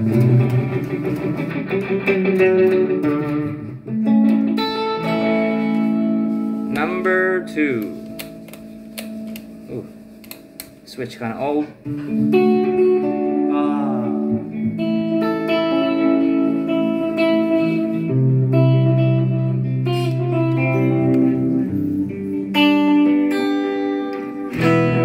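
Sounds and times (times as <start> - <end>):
electric guitar with tape echo: 0.0 - 25.0.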